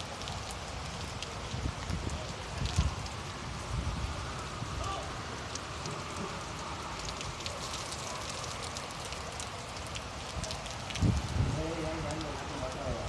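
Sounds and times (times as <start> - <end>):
raindrops ticking: 0.0 - 13.0
steady rain falling: 0.0 - 13.0.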